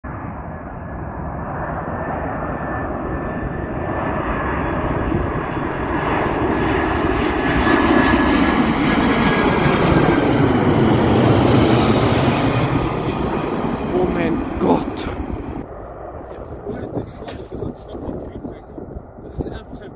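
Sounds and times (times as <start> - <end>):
faint high jet whine: 0.1 - 19.9
jet engine rumble: 0.1 - 19.9.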